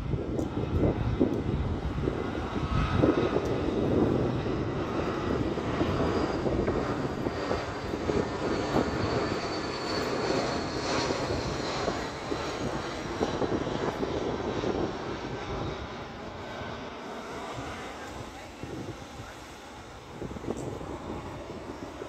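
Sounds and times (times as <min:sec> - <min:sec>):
jet airliner flying overhead: 0:00.0 - 0:22.0.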